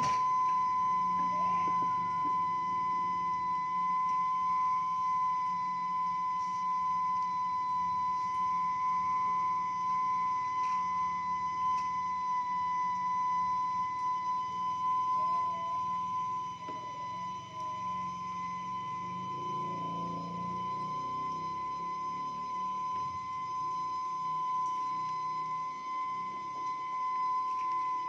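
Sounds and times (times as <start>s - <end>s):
high steam whistle: 0.0s - 28.0s.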